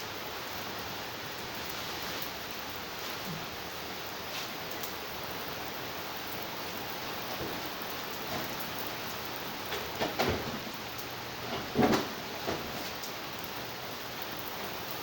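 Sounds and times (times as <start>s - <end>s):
heavy rain on hard surfaces: 0.0s - 15.0s.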